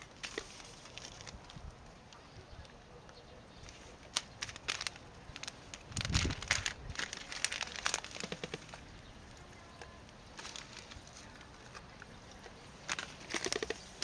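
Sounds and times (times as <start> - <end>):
plastic packaging crinkling: 0.0 - 1.7, 3.6 - 8.9, 9.6 - 14.0.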